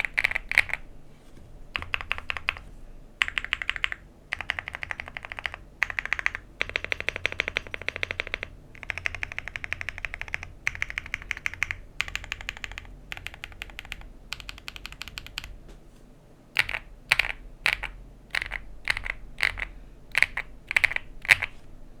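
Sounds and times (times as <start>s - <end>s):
mechanical keyboard typing: 0.0s - 0.8s, 1.8s - 2.6s, 3.2s - 15.5s, 16.6s - 21.6s.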